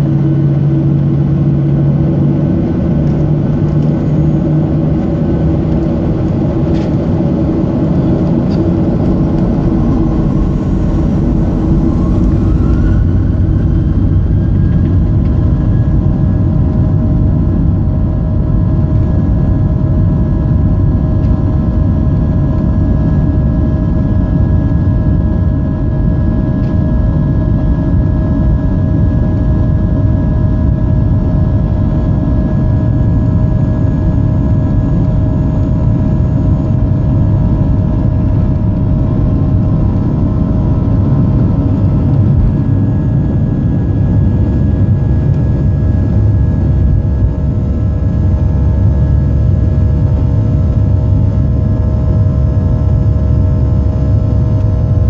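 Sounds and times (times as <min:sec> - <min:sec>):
jet engines rumbling and whining: 0:00.0 - 0:55.0.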